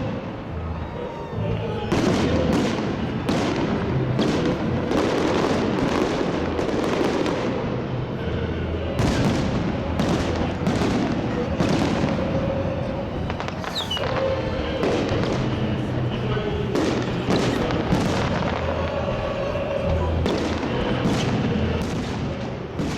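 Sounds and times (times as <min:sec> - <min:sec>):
fireworks banging and crackling: 0:01.4 - 0:22.9.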